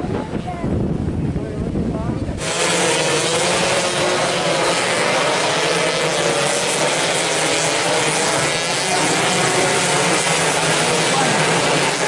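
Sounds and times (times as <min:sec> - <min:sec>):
motorcycle engines buzzing: 0:02.2 - 0:12.0.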